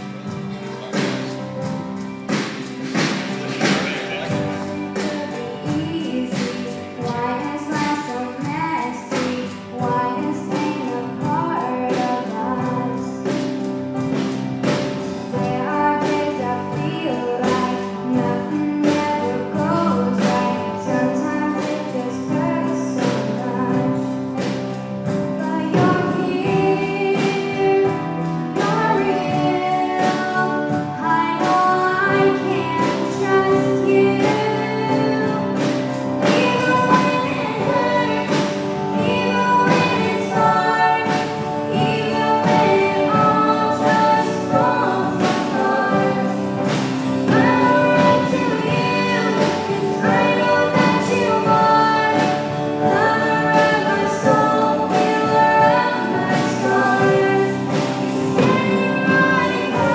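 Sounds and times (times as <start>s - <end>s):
band with keyboard and beat: 0.0s - 59.9s
women singing: 4.3s - 13.4s, 15.3s - 59.9s.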